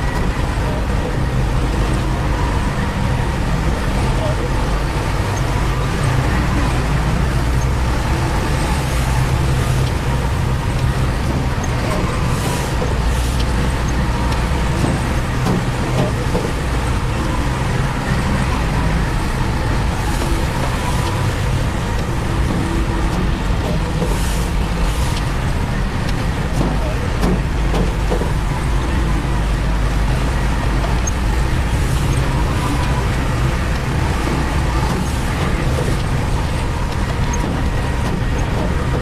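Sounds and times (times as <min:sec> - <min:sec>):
heavy diesel engine rumbling: 0:00.0 - 0:39.0.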